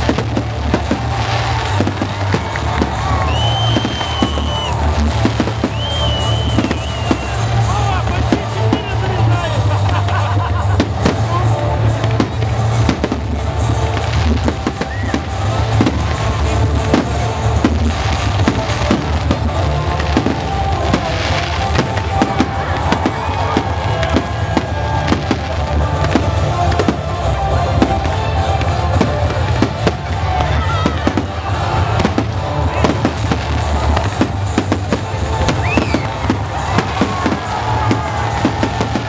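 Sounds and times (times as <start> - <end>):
fireworks bangs and crackles: 0.0 - 39.0
music playing: 0.0 - 39.0.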